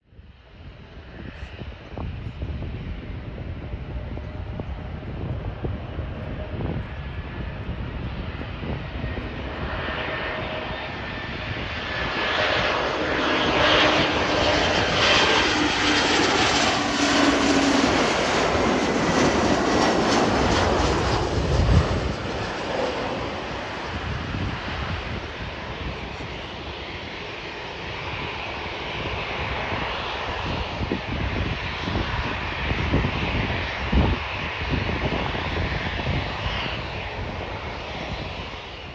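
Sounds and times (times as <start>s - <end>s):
wind rumbling on microphone: 0.0s - 38.9s
jet airliner engines passing: 0.1s - 38.9s.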